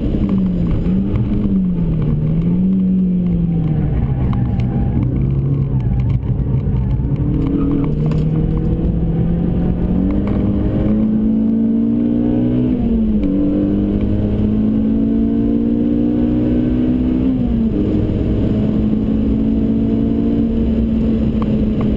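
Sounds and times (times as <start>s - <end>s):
car engine at full throttle: 0.0s - 21.9s.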